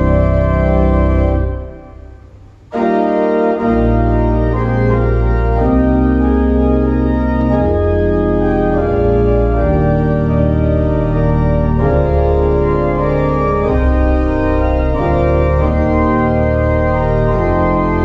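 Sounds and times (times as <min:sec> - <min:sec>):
organ pedal bass: 0:00.0 - 0:18.0
organ playing hymn chords: 0:00.0 - 0:18.0.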